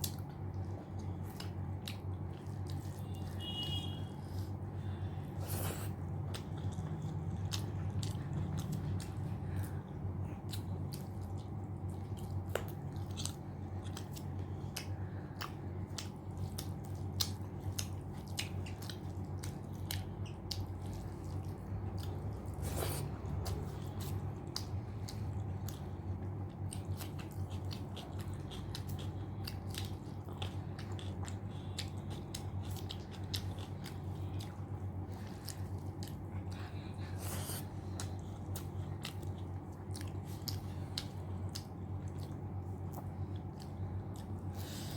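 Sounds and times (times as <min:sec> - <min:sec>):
chewing with wet mouth clicks: 0:00.0 - 0:44.9
steady low hum: 0:00.0 - 0:44.9.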